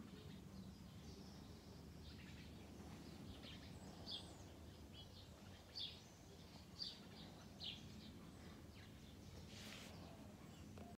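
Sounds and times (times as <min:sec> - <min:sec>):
faint bird chirps: 0:00.0 - 0:10.9
low outdoor background noise: 0:00.0 - 0:10.9.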